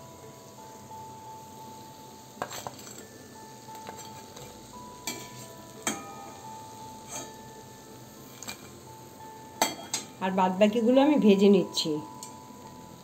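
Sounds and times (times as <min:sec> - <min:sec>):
faint sizzle of frying oil: 0:00.0 - 0:13.0.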